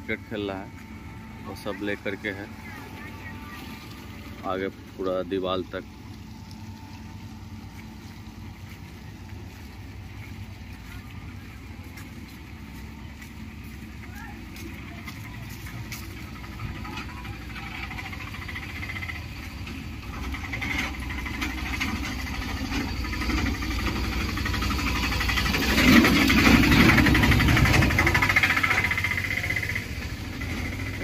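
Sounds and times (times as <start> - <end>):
vehicle engine passing: 0.0 - 31.0.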